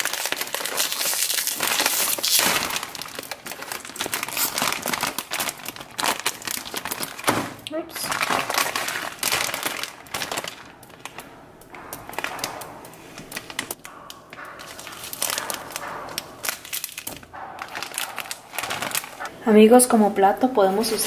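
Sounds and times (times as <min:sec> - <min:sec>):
plastic packet crinkling: 0:00.0 - 0:19.3.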